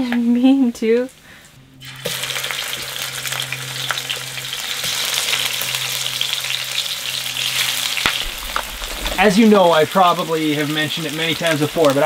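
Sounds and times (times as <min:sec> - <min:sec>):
low steady hum: 0:00.0 - 0:10.2
patties sizzling and crackling: 0:01.8 - 0:12.0.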